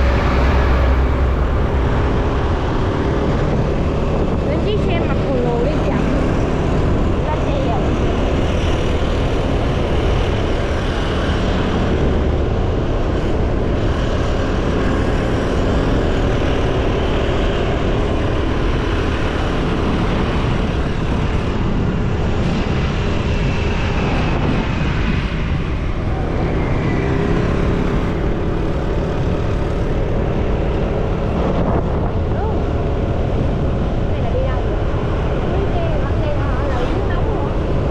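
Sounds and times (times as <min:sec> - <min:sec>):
motorcycle engine drone: 0:00.0 - 0:37.9
wind and road noise: 0:00.0 - 0:37.9.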